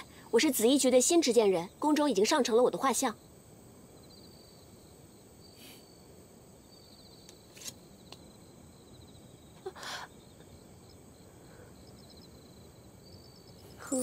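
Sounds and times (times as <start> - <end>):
crickets chirping: 0.0 - 14.0
low hiss: 0.0 - 14.0.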